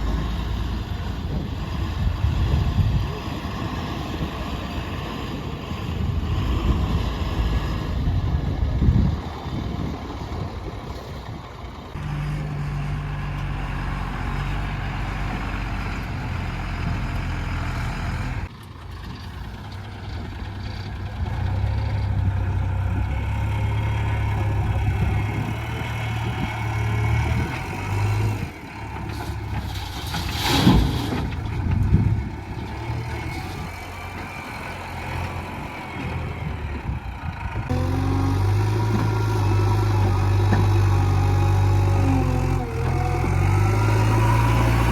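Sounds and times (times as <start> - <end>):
heavy diesel engines running: 0.0 - 44.9.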